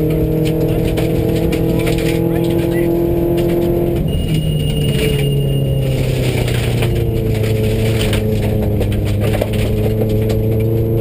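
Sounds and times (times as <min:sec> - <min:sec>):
gravel hitting car underside: 0:00.0 - 0:02.3, 0:03.3 - 0:11.0
car engine from inside cabin: 0:00.0 - 0:11.0.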